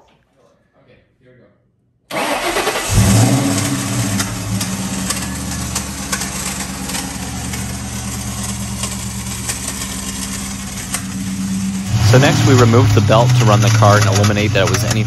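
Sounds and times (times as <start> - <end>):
car engine starting and running: 2.1 - 15.0
starter motor whirring: 2.1 - 15.0.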